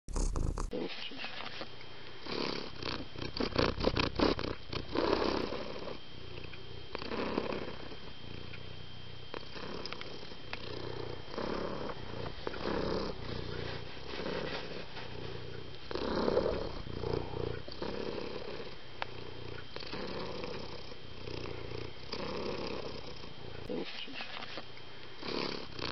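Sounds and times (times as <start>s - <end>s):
cat purring: 0.1s - 25.9s.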